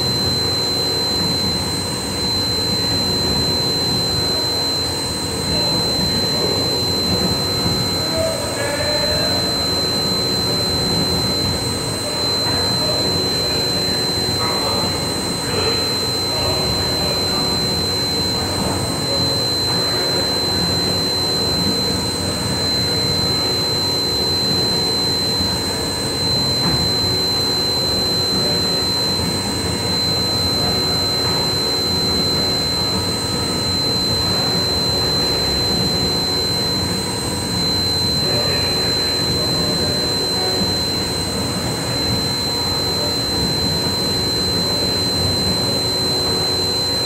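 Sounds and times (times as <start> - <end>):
high-pitched whine: 0.0 - 47.0.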